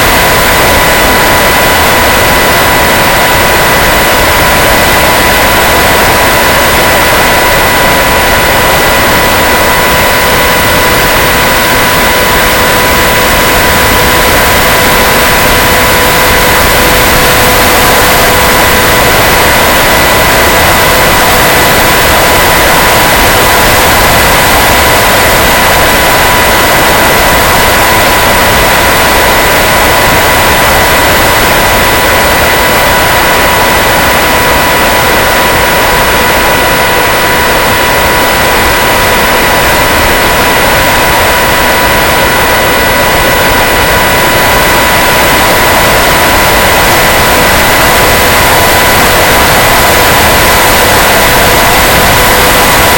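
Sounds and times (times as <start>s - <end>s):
electric motor whine: 0.0s - 52.9s
loud steady hiss: 0.0s - 52.9s.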